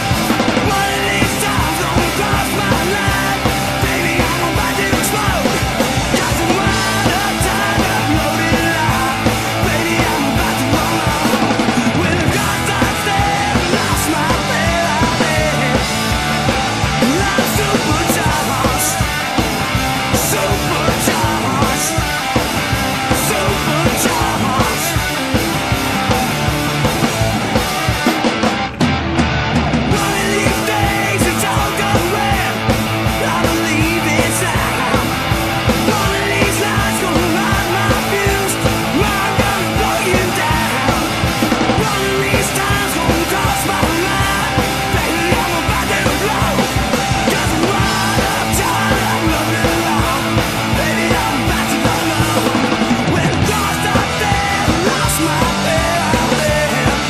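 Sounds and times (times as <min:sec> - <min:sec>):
rock song: 0:00.0 - 0:57.0.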